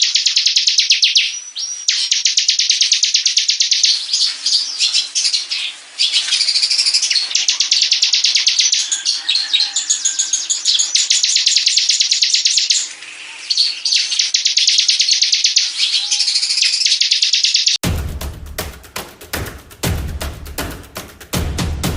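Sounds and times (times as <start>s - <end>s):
bird singing rapid trills: 0.0s - 17.8s.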